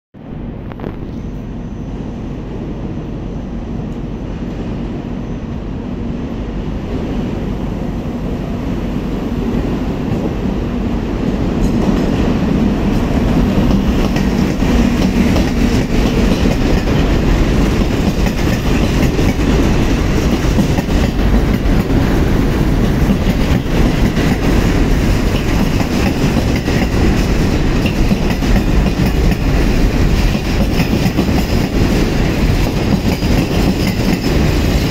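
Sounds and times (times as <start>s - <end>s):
freight train passing on rails: 0.2s - 34.9s.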